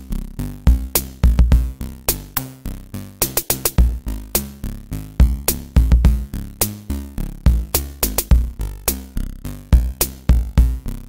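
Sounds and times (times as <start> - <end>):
electronic music with sharp percussion: 0.0 - 11.0
stepping bass line: 0.0 - 11.0.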